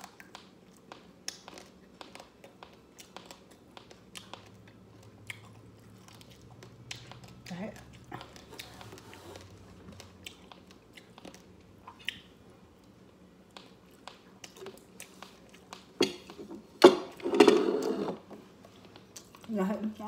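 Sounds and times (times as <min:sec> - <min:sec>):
chewing crispy rice: 0:00.0 - 0:16.7.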